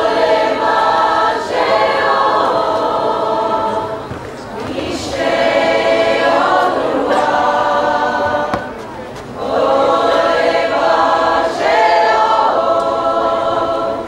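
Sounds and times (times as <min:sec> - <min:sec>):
mixed choir singing: 0:00.0 - 0:14.0.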